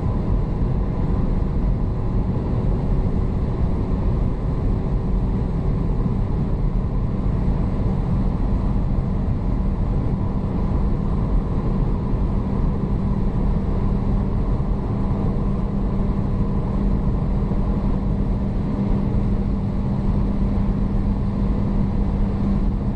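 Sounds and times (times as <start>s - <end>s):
car engine droning: 0.0s - 22.9s
wind and road noise: 0.0s - 22.9s.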